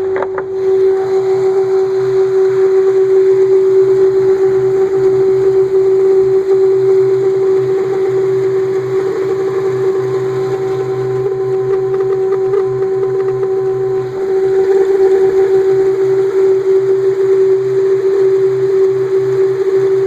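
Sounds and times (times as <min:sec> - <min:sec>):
car engine whining hum: 0:00.0 - 0:20.0.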